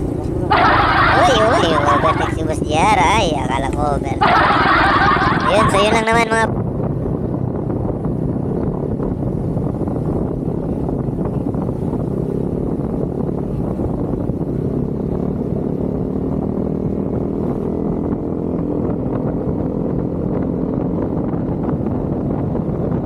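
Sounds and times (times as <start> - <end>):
motorcycle engine droning: 0.0 - 23.0
wind noise on microphone: 0.0 - 23.0.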